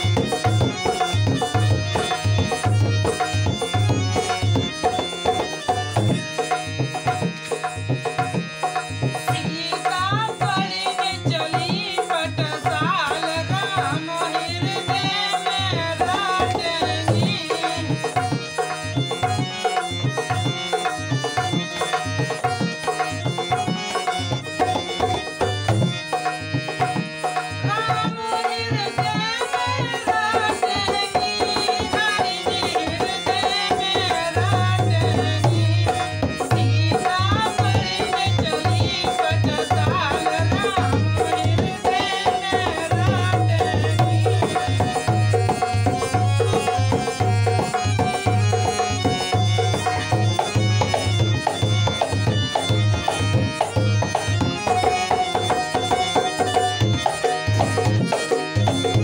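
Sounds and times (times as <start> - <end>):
harmonium: 0.0 - 59.0.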